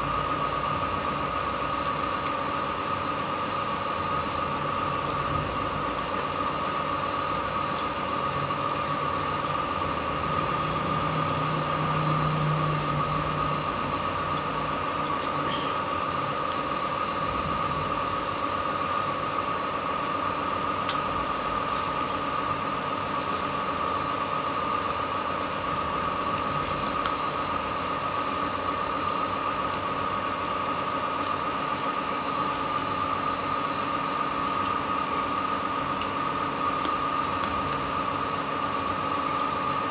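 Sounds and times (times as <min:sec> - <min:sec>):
mechanical hum with high whine: 0:00.0 - 0:39.9.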